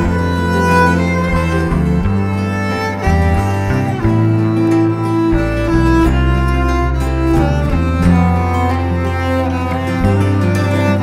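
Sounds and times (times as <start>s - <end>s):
bowed strings holding slow chords: 0.0s - 11.0s.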